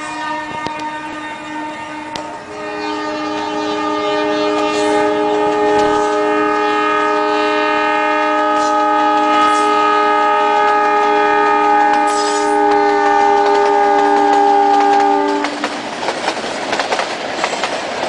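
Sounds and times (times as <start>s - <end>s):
locomotive air horn blast: 0.0s - 15.7s.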